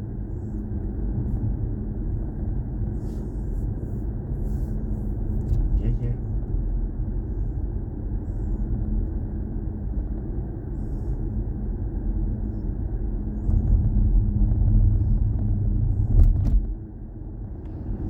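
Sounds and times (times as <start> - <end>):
road and tyre rumble in car: 0.0 - 18.0.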